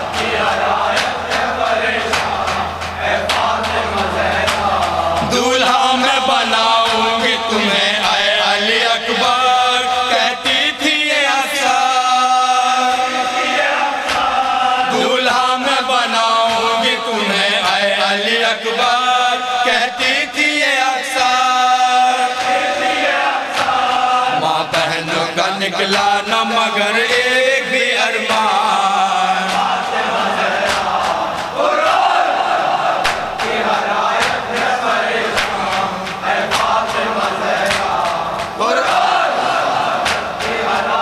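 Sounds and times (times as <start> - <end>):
men chanting a lament: 0.0 - 41.0
rhythmic chest-beating strikes: 0.0 - 41.0.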